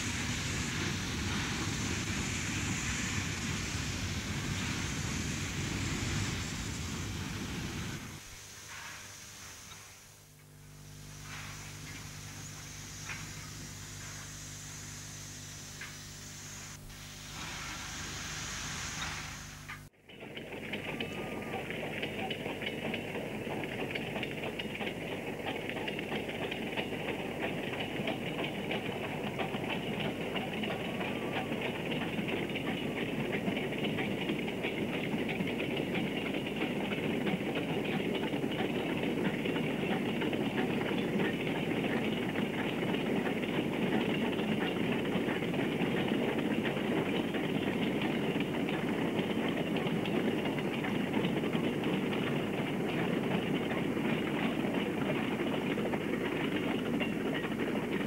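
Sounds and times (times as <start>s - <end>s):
rumble of wagons: 0.0s - 9.0s, 18.6s - 58.0s
steam locomotive exhaust: 0.0s - 58.0s.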